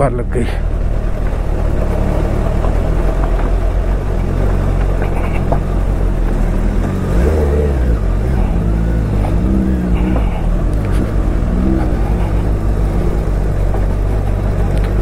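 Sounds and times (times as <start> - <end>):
motorcycle engine running: 0.4 - 15.0.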